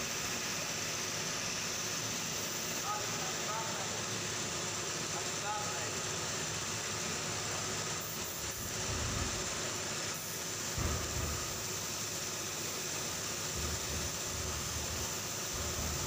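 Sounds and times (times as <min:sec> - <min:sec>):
spray gun air hissing: 0:00.0 - 0:16.0.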